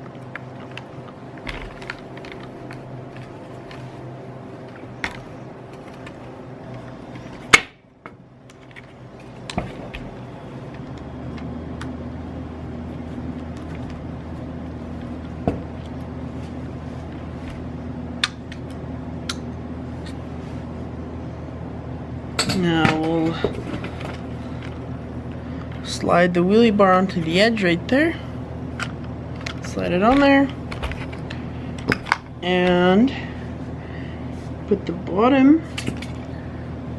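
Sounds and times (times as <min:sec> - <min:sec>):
steady hum: 0:00.0 - 0:36.9.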